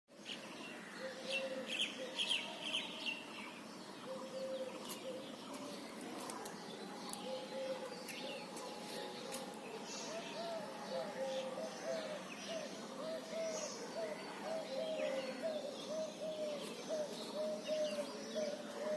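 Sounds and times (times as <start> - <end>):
birds chirping: 0.1 - 18.9.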